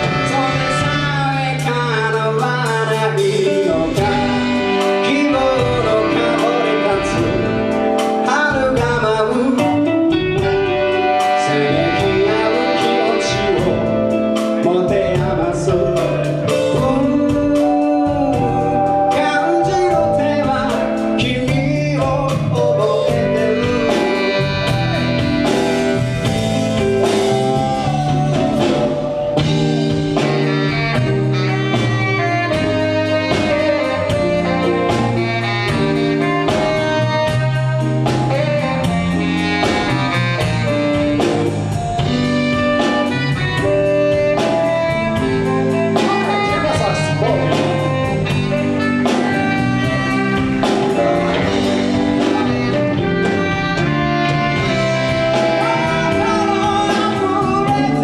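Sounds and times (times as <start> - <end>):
live blues band playing: 0.0 - 58.0
sung or saxophone melody: 0.0 - 58.0.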